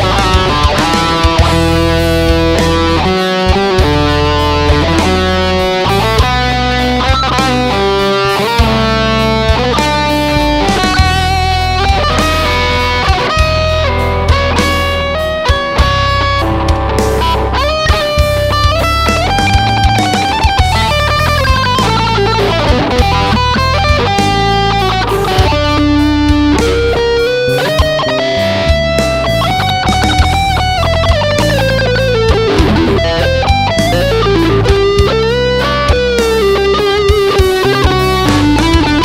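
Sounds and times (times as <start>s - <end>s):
electric guitar lead melody: 0.0s - 39.0s
low bass notes: 0.0s - 39.0s
sharp drum beats: 0.0s - 39.0s.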